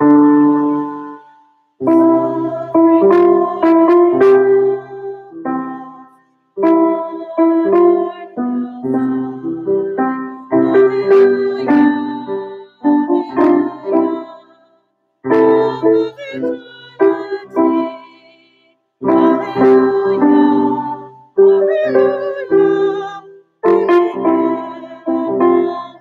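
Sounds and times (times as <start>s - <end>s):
piano playing slow chords: 0.0s - 14.4s, 19.0s - 26.0s.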